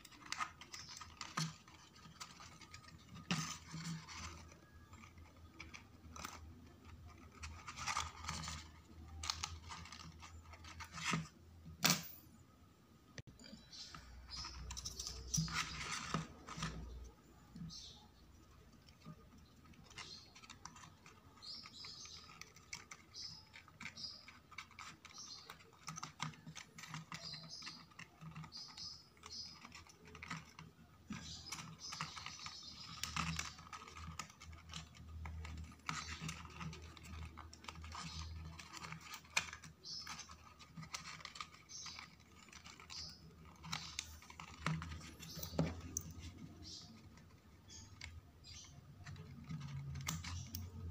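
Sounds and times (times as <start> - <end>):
paper crinkling and rustling: 0.0 - 11.4, 14.0 - 50.9.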